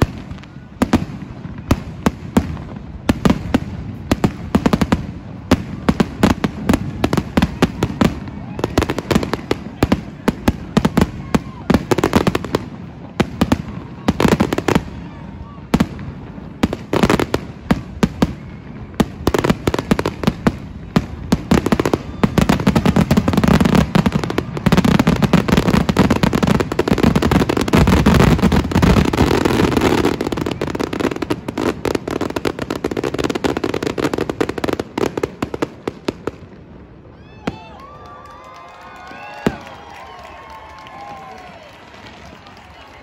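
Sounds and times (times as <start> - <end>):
fireworks booming and crackling: 0.0 - 37.8.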